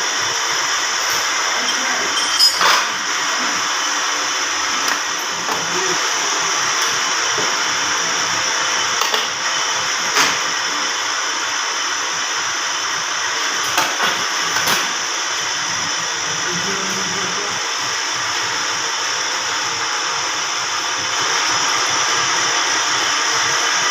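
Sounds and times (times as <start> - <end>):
grinding machine whining: 0.0 - 23.9.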